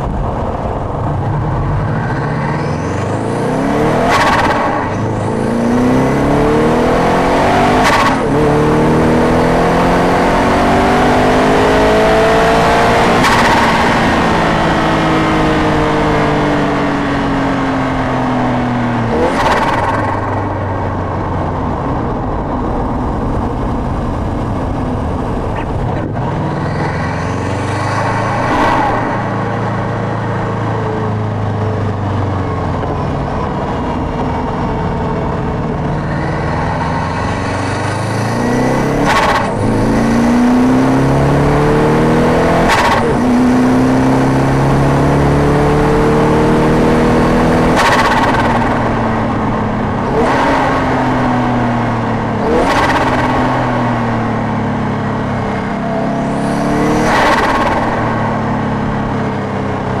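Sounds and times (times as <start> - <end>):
turbocharged engine revving: 0.0 - 21.0, 23.3 - 60.0.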